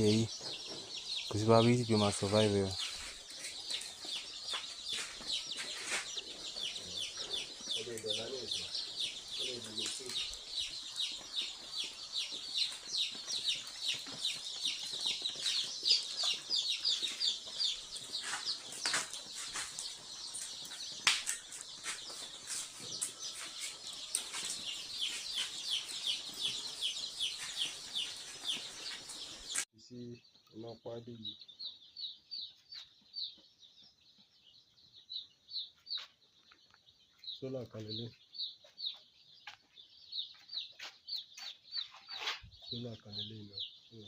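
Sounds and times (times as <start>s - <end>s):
chicks peeping: 0.0s - 44.0s.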